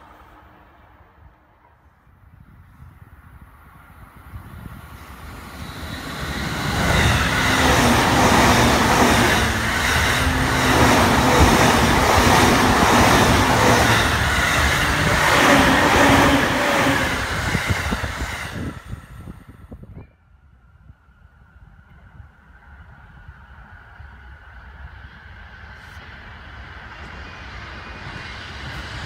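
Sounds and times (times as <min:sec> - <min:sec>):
train hum: 0:00.0 - 0:29.0.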